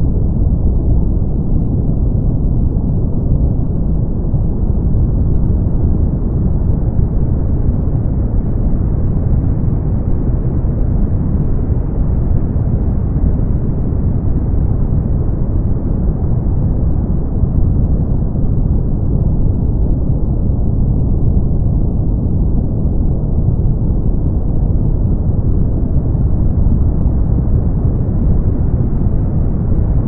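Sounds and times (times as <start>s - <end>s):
brown noise: 0.0s - 30.0s.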